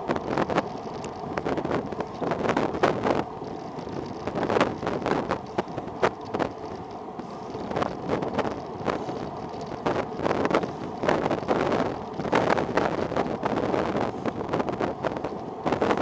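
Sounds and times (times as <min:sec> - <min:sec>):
tyre and road noise: 0:00.0 - 0:16.0
wind buffeting microphone: 0:00.0 - 0:16.0.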